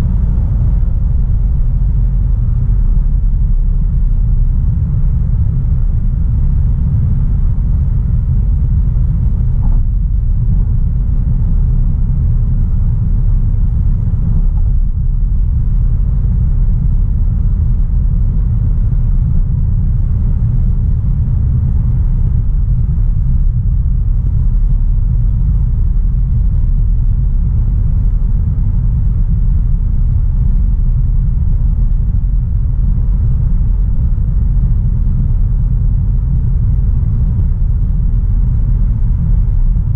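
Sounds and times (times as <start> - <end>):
car driving rumble: 0.0 - 39.9
road noise: 0.0 - 39.9.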